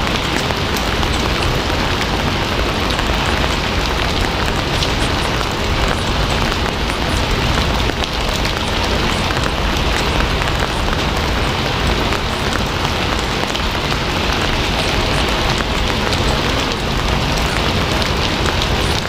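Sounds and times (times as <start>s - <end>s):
patter of raindrops: 0.0s - 19.0s
steady rain hiss: 0.0s - 19.0s.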